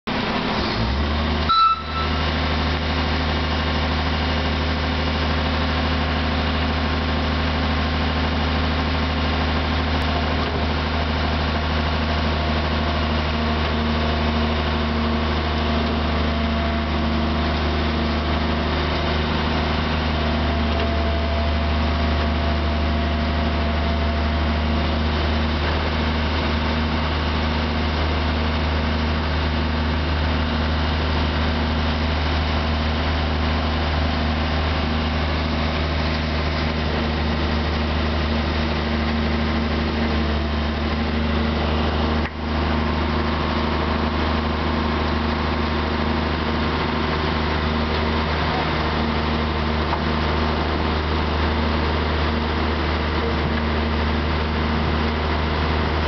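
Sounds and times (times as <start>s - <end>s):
diesel locomotive engine idling: 0.1s - 56.0s.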